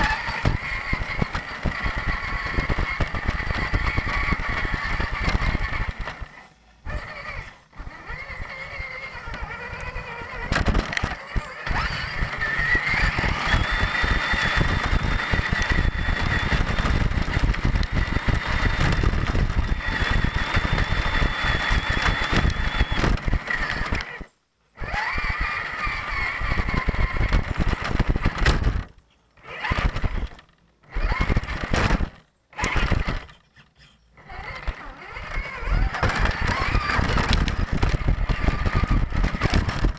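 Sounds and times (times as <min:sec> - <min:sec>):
rumble and rattle from ground: 0:00.0 - 0:39.9
toy truck motor whining: 0:00.0 - 0:39.9.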